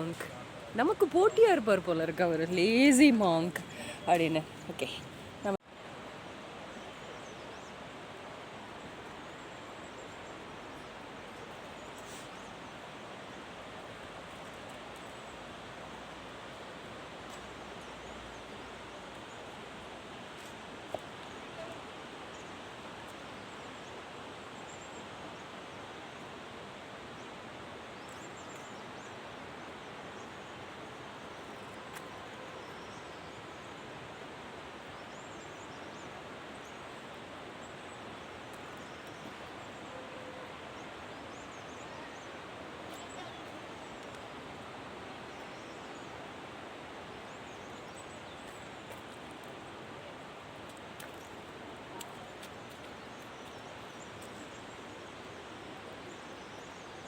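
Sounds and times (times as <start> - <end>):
outdoor background hiss: 0.0 - 57.0.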